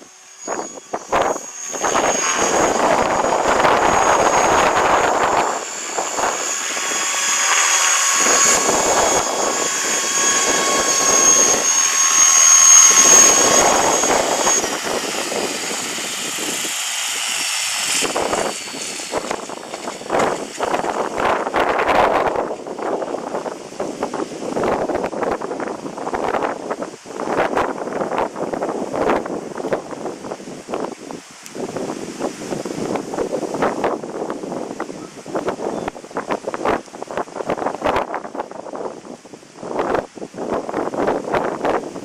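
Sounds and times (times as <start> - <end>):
rc helicopter motor whine: 0.0 - 42.0
wind buffeting microphone: 0.0 - 42.0.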